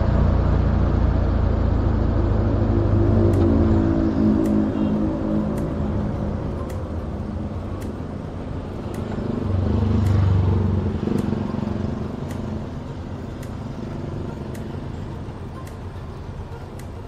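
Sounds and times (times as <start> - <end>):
road traffic engines: 0.0 - 17.0.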